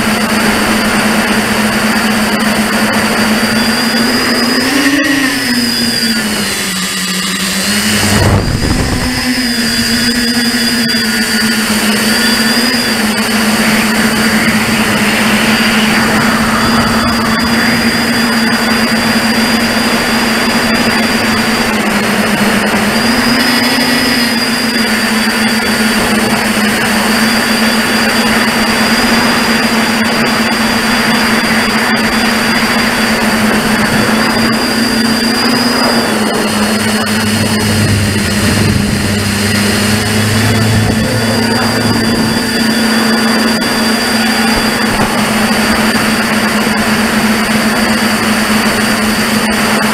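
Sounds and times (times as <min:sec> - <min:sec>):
drone motors buzzing: 0:00.0 - 0:49.9
rushing noise: 0:00.0 - 0:49.9.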